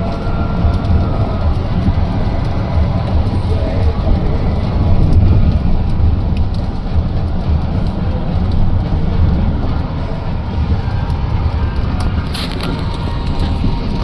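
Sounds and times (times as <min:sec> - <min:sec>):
car driving low rumble: 0:00.0 - 0:14.0.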